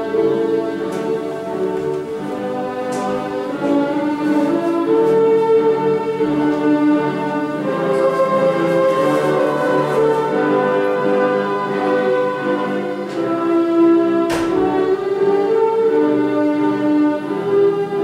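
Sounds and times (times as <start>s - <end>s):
orchestral bowed strings: 0.0s - 18.0s.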